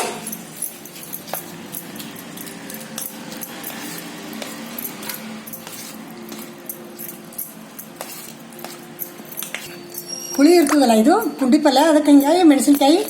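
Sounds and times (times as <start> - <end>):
spoon scraping a dish: 0.0 - 10.7.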